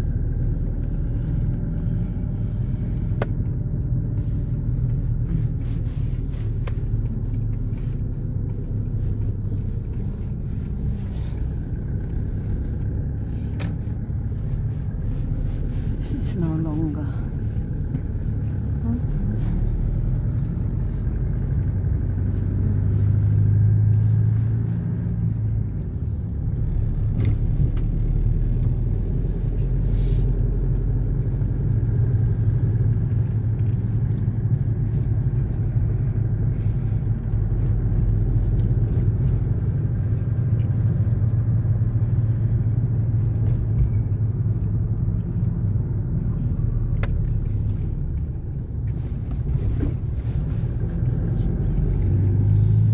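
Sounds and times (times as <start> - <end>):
car interior engine and road hum: 0.0 - 52.9.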